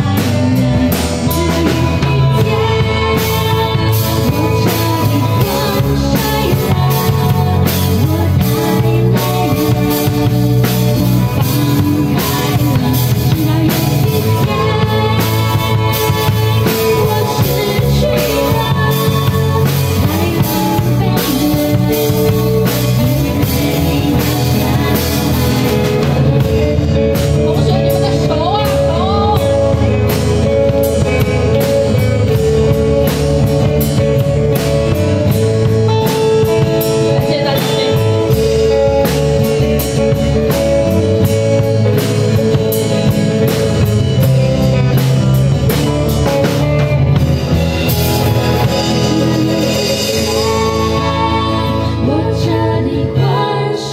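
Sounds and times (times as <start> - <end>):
drum beats: 0.0 - 52.6
live band playing: 0.0 - 53.9.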